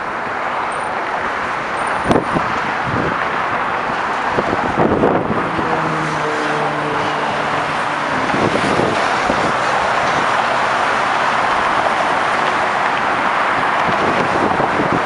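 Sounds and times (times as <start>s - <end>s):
road traffic driving past: 0.0s - 15.0s.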